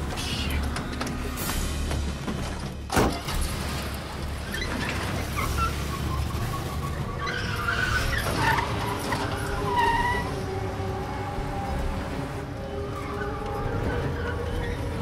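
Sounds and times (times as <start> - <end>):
dark film score music: 0.0 - 15.0.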